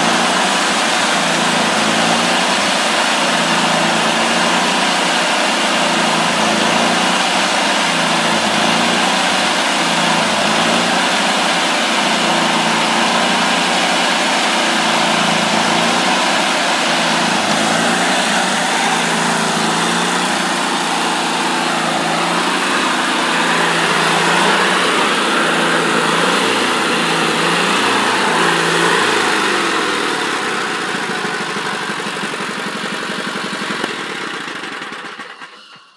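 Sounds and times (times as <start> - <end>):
band sawmill running: 0.0 - 35.9.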